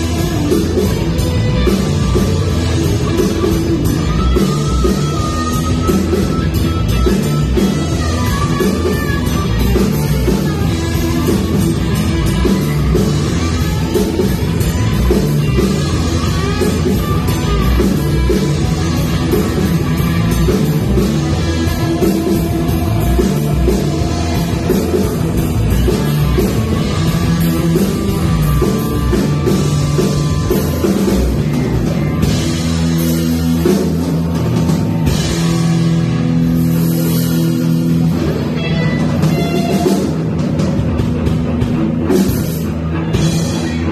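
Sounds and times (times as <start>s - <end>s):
rock band playing: 0.0s - 43.9s.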